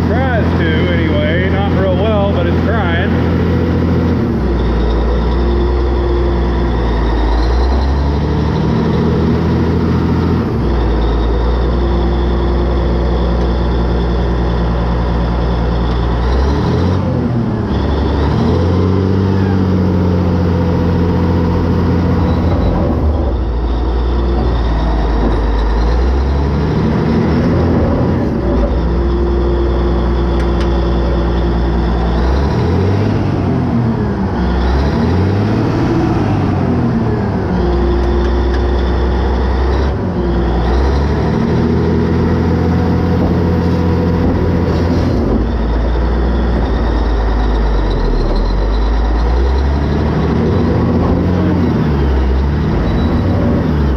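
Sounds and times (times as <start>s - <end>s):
diesel engine under load: 0.0s - 53.9s.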